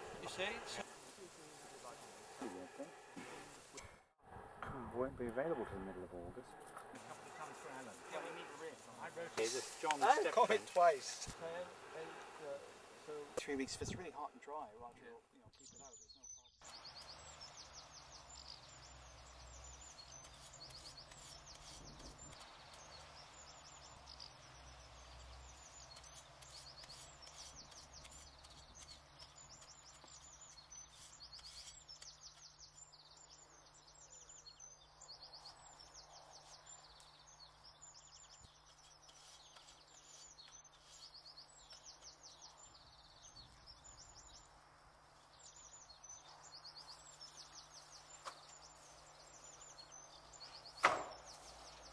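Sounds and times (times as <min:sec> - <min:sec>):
small birds chirping: 0:00.0 - 0:04.2, 0:05.0 - 0:51.9.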